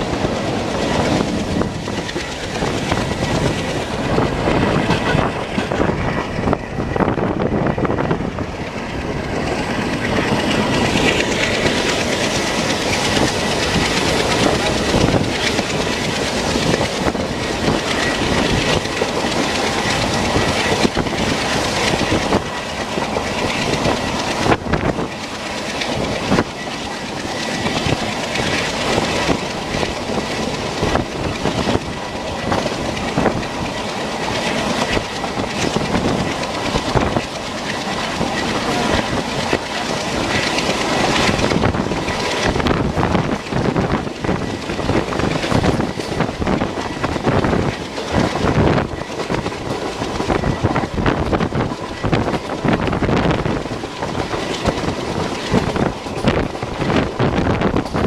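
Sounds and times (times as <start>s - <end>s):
rushing track and air noise: 0.0s - 58.0s
train wheels clattering: 0.0s - 58.0s.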